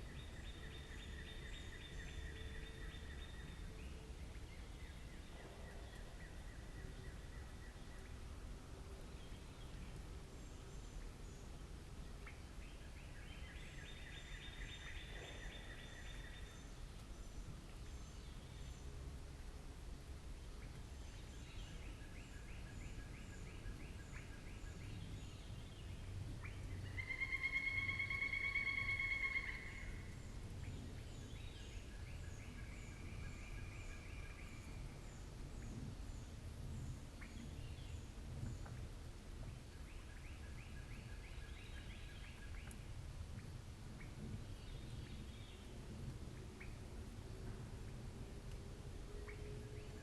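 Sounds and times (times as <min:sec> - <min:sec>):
low outdoor hum: 0:00.0 - 0:50.0.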